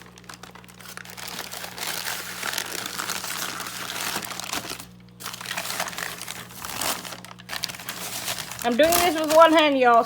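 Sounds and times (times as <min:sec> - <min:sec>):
packing wrap crinkling: 0:00.0 - 0:10.0.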